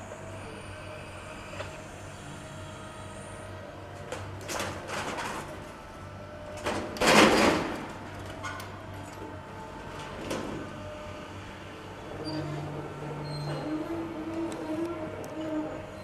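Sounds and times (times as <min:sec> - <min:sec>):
demolition machinery running: 0:00.0 - 0:16.0.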